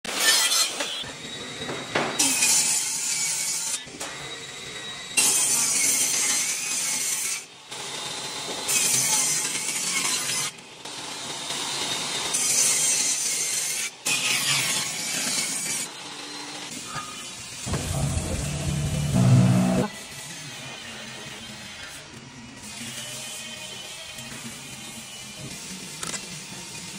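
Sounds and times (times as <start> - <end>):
circular saws cutting boards: 0.0 - 25.3.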